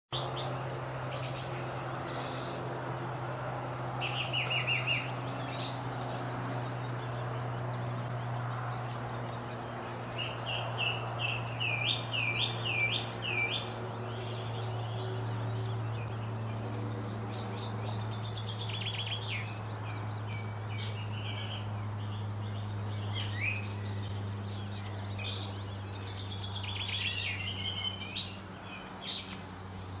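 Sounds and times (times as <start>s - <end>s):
small birds chirping and singing: 0.1s - 30.0s
steady low hum: 0.1s - 30.0s.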